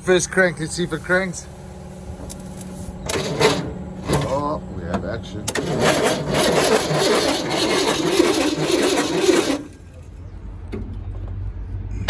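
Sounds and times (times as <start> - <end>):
truck engine cranking: 0.0 - 11.2.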